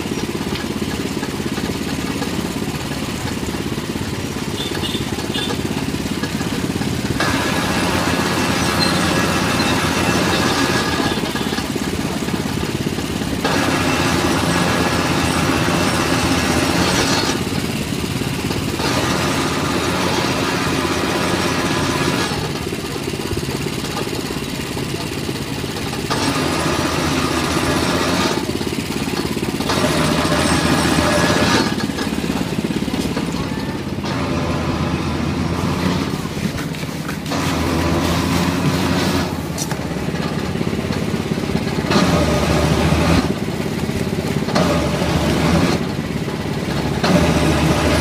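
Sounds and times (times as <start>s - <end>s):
juice press motor running: 0.0s - 48.0s.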